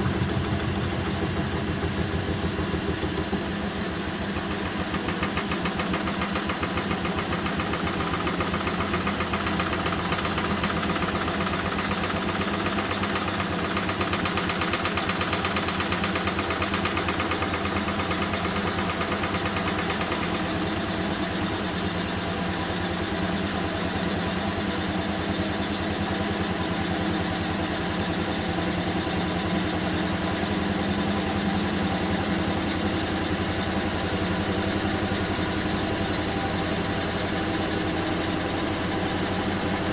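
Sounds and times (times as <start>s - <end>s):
washing machine motor hum: 0.0s - 24.4s, 26.4s - 39.9s.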